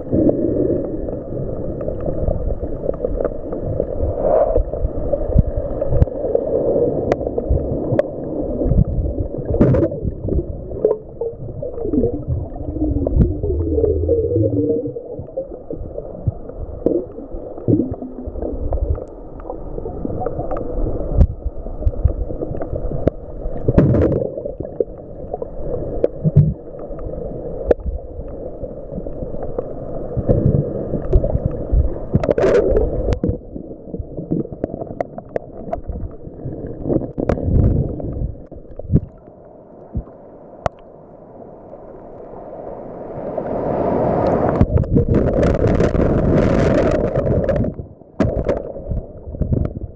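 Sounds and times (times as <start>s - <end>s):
hiss and wash of waves: 0.0s - 49.9s
muffled underwater rumbling and gurgling: 0.0s - 49.9s.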